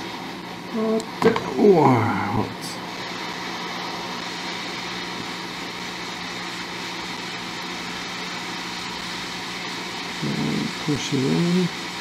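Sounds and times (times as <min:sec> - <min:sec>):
hot air station hissing: 0:00.0 - 0:12.0.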